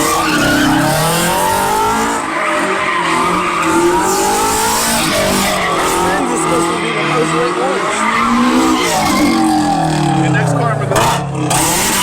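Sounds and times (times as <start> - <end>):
car engine revving: 0.0 - 12.0
tyres squealing on pavement: 0.0 - 12.0.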